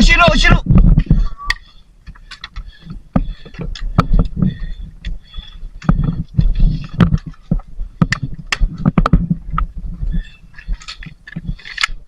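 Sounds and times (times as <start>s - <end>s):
clicks and knocks of gear: 1.0s - 12.0s.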